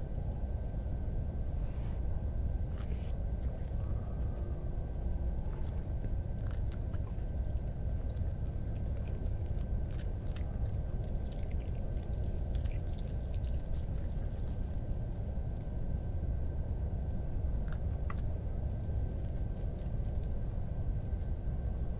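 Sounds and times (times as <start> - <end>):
low rumble and hiss: 0.0 - 21.9
fox chewing and crunching food: 2.6 - 21.9.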